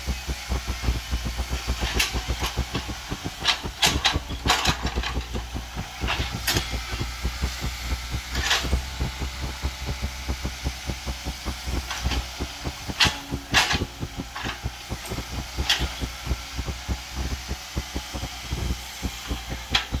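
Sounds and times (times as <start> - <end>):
excavator diesel engine throbbing: 0.0 - 20.0
sharp knocks and clanks: 0.1 - 20.0.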